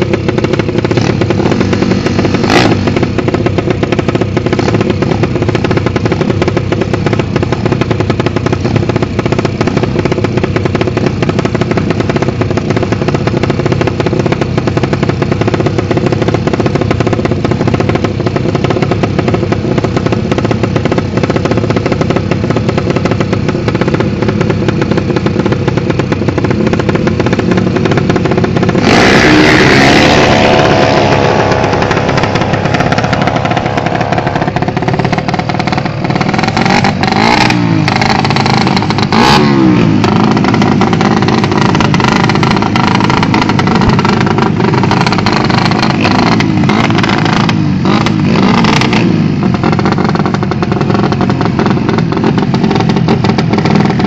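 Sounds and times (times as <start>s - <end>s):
motorcycle engines running: 0.0s - 54.0s
motorcycle revving hard: 0.0s - 54.0s.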